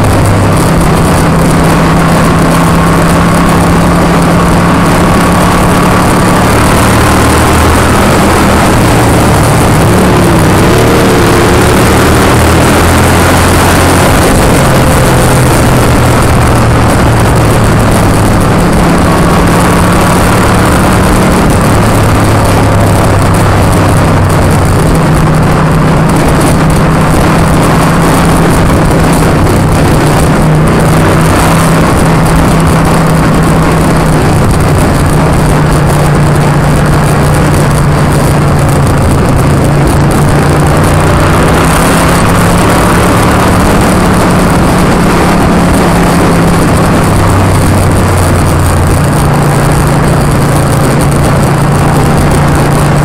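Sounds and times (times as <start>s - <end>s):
loud wind rush: 0.0s - 53.0s
motorcycle engine running: 0.0s - 53.0s.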